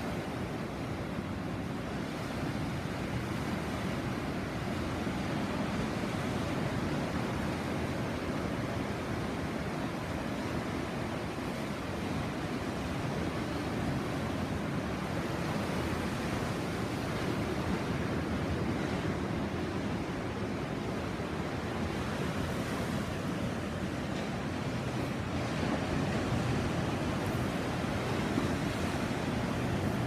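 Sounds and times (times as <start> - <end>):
sea surf washing onto shore: 0.0 - 30.0.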